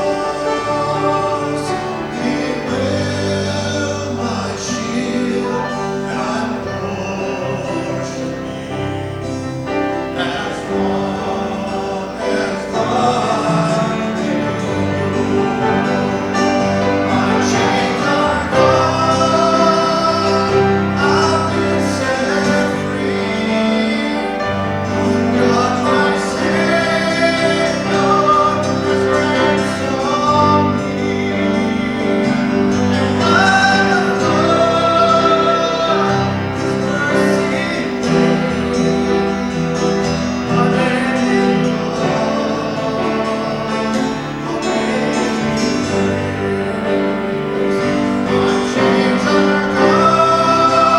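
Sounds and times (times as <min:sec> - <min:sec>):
guitar: 0:00.0 - 0:50.9
piano: 0:00.0 - 0:50.9
voices singing worship song: 0:00.0 - 0:50.9.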